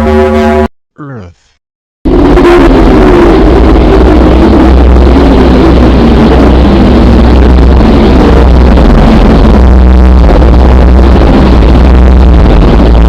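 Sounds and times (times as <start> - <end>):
low rumbling drone: 0.0 - 0.7, 2.1 - 13.0.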